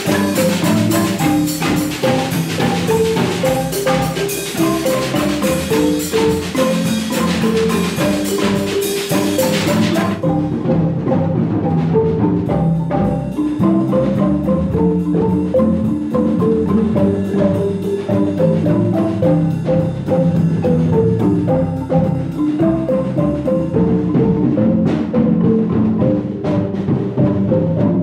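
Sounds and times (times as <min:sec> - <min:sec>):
marimba ensemble playing: 0:00.0 - 0:28.0.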